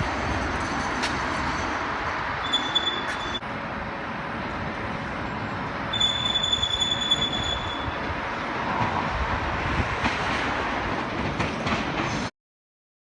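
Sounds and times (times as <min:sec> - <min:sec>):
tram wheels rumbling on rail: 0:00.0 - 0:12.3.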